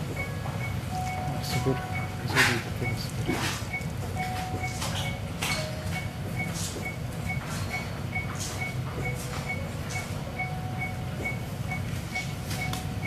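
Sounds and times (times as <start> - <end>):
low equipment hum: 0.0 - 13.0
patient monitor beeping: 0.0 - 13.0.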